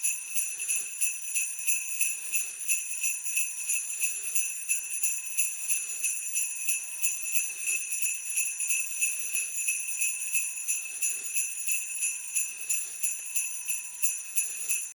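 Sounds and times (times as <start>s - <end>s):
jingle bells shaken: 0.0s - 14.9s.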